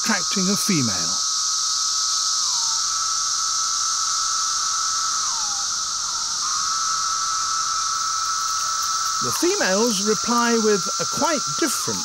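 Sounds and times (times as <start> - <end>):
cicada chorus hiss: 0.0 - 12.0
cicada whining call: 0.0 - 12.0.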